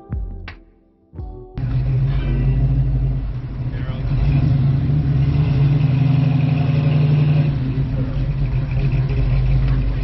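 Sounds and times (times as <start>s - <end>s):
car engine running: 1.6s - 10.0s.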